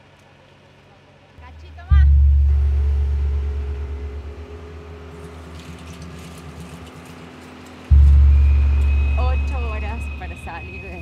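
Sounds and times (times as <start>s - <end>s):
tractor engine rumbling: 1.4s - 11.0s.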